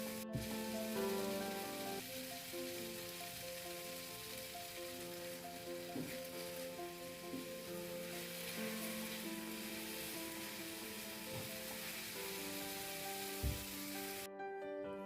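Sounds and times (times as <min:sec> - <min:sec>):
food sizzling in hot oil: 0:00.0 - 0:14.3
soft background music: 0:00.0 - 0:15.0.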